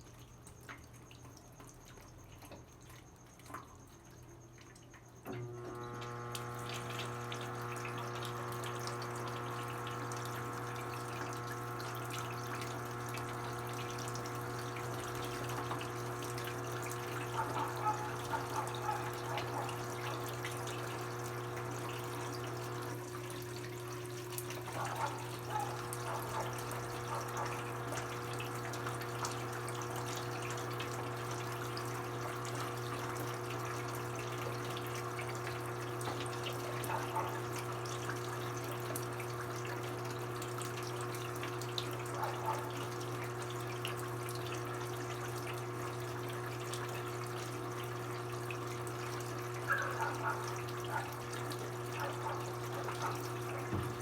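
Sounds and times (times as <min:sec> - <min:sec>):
washing machine running: 0:00.0 - 0:54.0
steady electric hum: 0:05.4 - 0:54.0
water flowing: 0:05.6 - 0:54.0.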